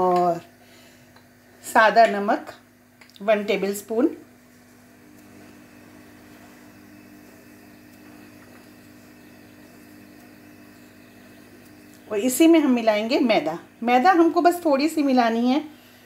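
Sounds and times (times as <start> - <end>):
faint machine hum with hiss: 0.0 - 16.0.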